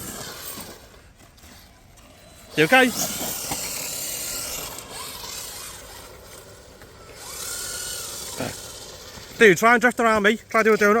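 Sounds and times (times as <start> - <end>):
electric motor whine: 0.0 - 10.9
tyres scrubbing ground: 0.0 - 11.0.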